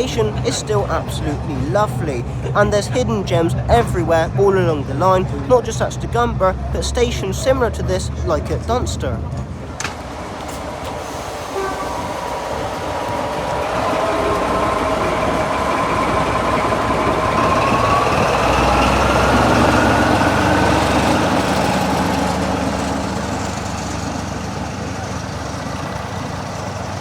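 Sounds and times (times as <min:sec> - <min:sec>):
diesel locomotive engine: 0:00.0 - 0:27.0
rising locomotive whine: 0:00.0 - 0:27.0.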